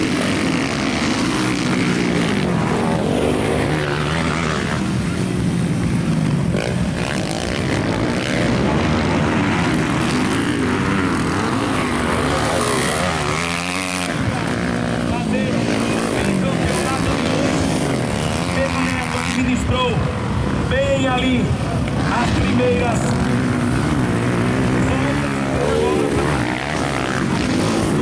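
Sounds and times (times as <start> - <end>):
motocross bikes revving: 0.0 - 28.0.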